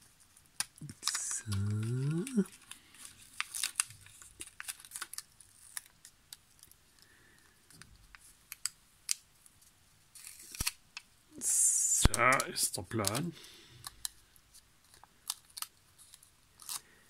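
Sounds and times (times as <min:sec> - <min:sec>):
paper label crinkling: 0:00.0 - 0:17.0.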